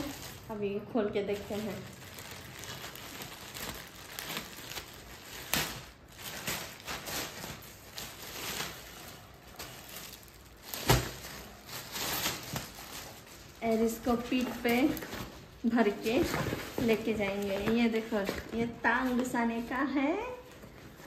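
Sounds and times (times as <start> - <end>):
plastic mailer bag crinkling and tearing: 0.0 - 21.0
plastic wrap rustling: 0.0 - 21.0.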